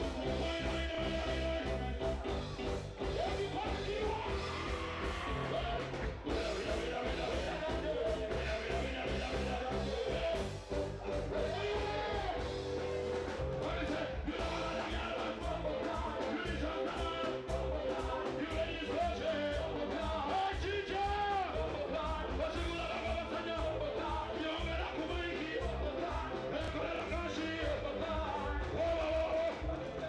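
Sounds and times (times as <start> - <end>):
man singing into a microphone: 0.0 - 12.6, 13.5 - 30.0
live band with steady beat: 0.0 - 30.0.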